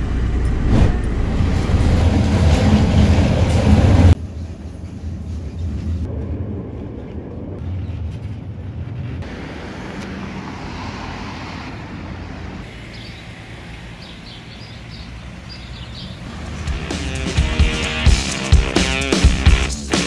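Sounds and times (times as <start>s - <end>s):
street traffic passing: 0.0s - 20.0s.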